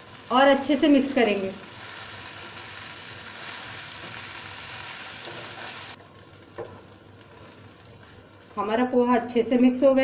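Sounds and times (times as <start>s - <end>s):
hot pan sizzling: 0.0s - 10.0s.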